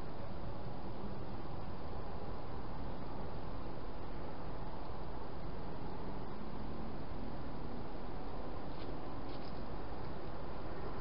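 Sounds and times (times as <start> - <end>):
steady hiss with low rumble: 0.0 - 11.0.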